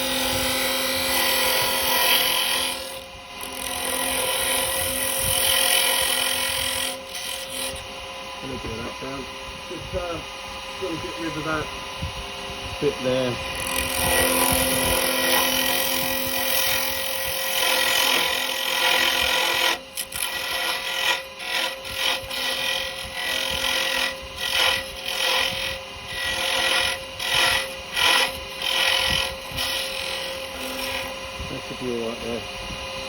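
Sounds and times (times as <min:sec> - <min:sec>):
chisel cutting spinning wood: 0:00.0 - 0:33.0
wood lathe motor hum: 0:00.0 - 0:33.0.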